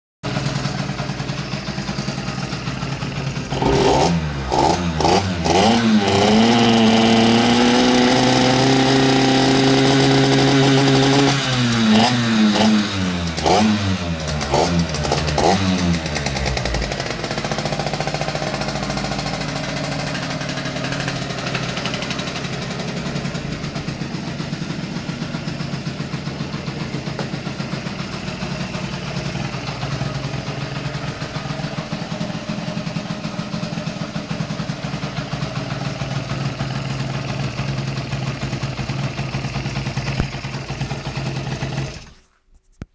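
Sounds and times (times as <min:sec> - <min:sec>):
scooter engine idling and revving: 0:00.2 - 0:42.4.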